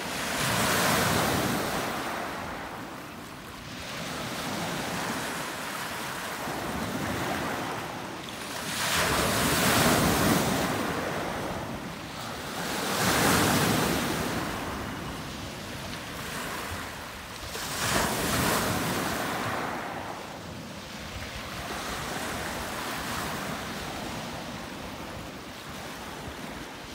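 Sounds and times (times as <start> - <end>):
waves washing onto pebble beach: 0.0 - 26.9.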